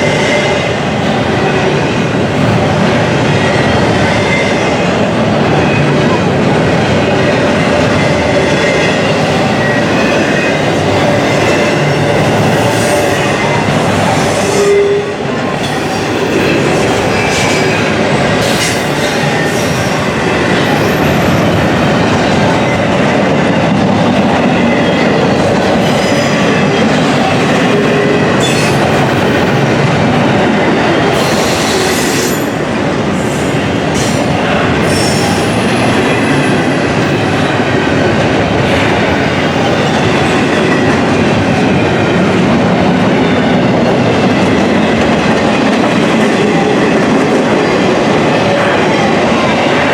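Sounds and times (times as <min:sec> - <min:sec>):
train wheels rumbling on rails: 0:00.0 - 0:49.9.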